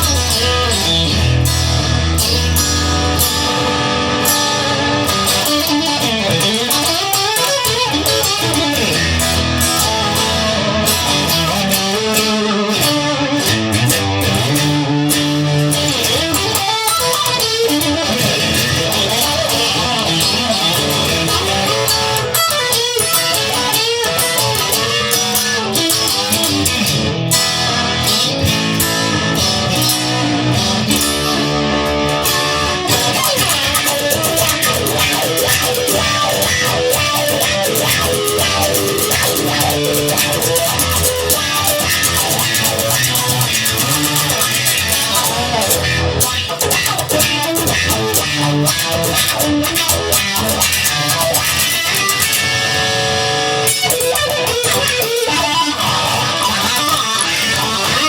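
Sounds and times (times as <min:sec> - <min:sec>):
bass guitar: 0:00.0 - 0:58.0
lead electric guitar: 0:00.0 - 0:58.0
strummed guitar: 0:00.0 - 0:58.0.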